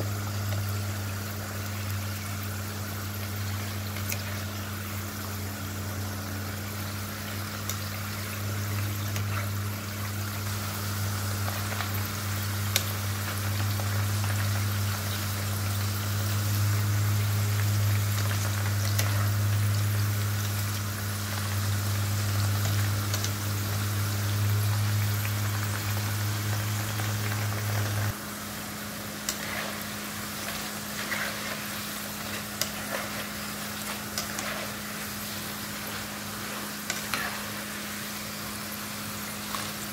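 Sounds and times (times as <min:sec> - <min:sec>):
potatoes sizzling in hot oil: 0:00.0 - 0:39.9.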